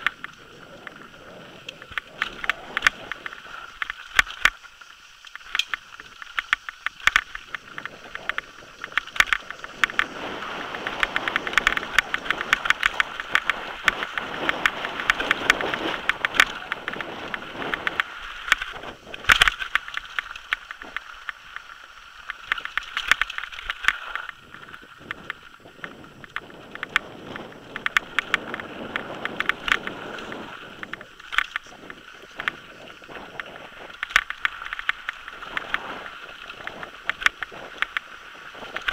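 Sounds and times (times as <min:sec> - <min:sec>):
bike rattling over stones: 0:00.0 - 0:38.9
wind and tyre noise: 0:00.0 - 0:38.9.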